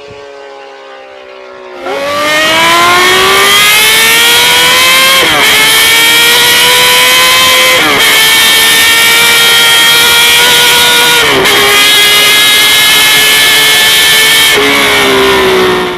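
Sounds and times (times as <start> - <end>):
motorcycle engine accelerating: 0.0 - 15.9.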